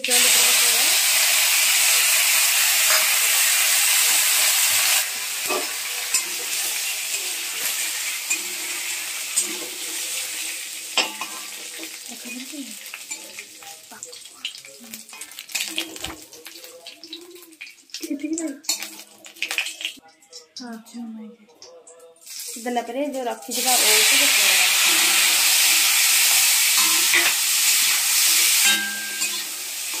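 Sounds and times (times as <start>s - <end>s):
hot oil sizzling: 0.0s - 20.0s, 22.2s - 30.0s.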